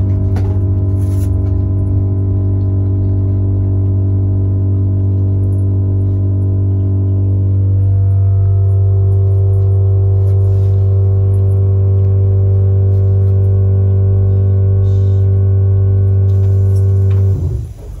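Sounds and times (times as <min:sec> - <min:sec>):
loud electrical hum: 0:00.0 - 0:18.0.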